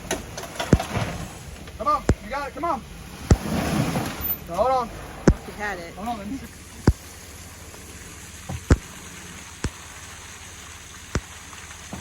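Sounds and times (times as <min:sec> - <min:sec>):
rain hiss: 0:00.0 - 0:12.0
raindrops tapping close by: 0:00.0 - 0:12.0.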